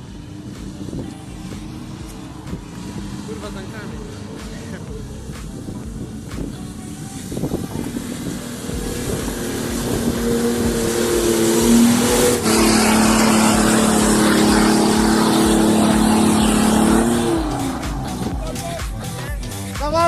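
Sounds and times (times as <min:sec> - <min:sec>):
steady rushing noise: 0:00.0 - 0:19.2
off-road vehicle engine revving: 0:00.0 - 0:19.9.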